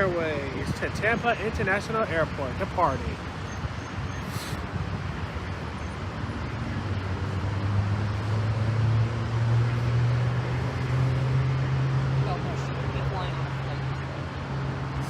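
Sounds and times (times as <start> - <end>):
broad rushing noise: 0.0 - 15.0.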